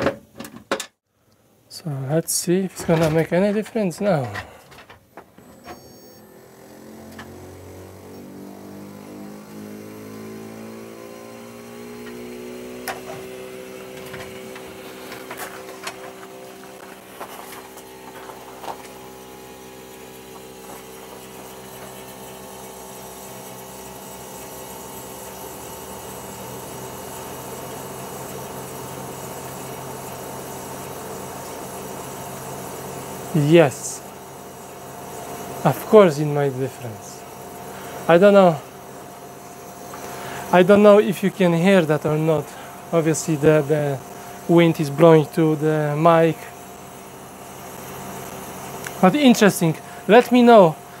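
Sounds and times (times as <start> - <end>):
air conditioner humming: 1.2 - 10.8, 11.6 - 23.9, 30.4 - 51.0.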